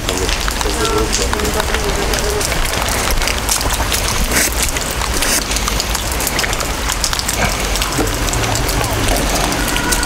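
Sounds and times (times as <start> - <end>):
raindrops ticking on helmet: 0.0 - 10.0
steady rain: 0.0 - 10.0.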